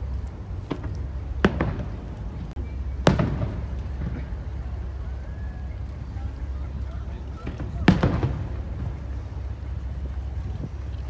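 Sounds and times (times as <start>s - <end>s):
low rumble: 0.0s - 11.0s
distant firework bangs: 0.6s - 10.8s.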